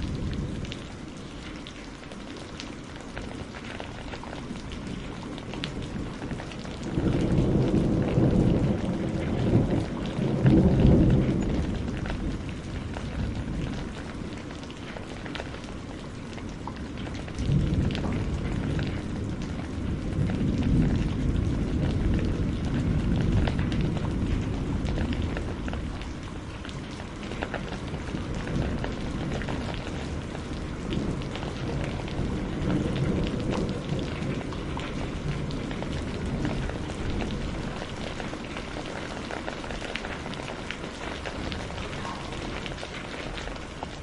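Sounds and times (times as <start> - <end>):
distant thunder rumble: 0.0 - 44.0
rain patter: 0.0 - 44.0.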